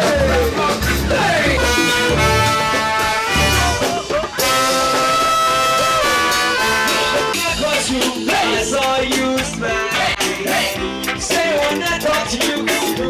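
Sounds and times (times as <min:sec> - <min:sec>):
horn section chords: 0:00.0 - 0:08.9, 0:09.7 - 0:12.9
electric bass line: 0:00.0 - 0:13.0
ska band playing: 0:00.0 - 0:13.0.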